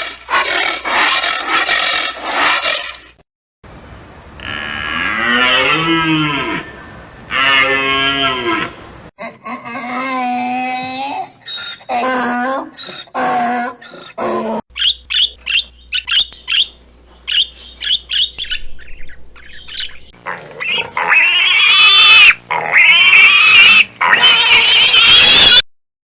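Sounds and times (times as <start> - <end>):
pig squealing: 0.0 - 3.0, 4.3 - 16.7, 19.4 - 25.6.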